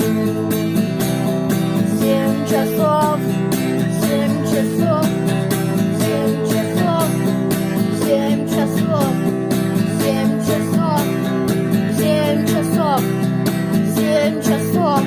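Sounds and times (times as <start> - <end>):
bass guitar: 0.0 - 15.0
electric guitar solo: 0.0 - 15.0
rhythm guitar chords: 0.0 - 15.0.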